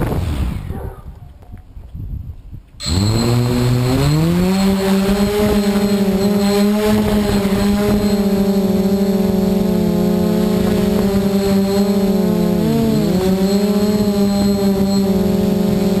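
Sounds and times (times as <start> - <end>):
drone motors whining: 2.8 - 16.0.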